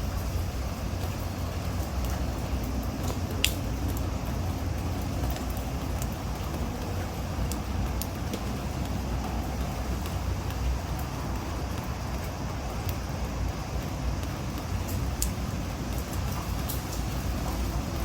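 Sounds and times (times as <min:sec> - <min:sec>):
hiss of rain: 0:00.0 - 0:18.0
low rumble of wind: 0:00.0 - 0:18.0
taps of raindrops: 0:00.0 - 0:18.0.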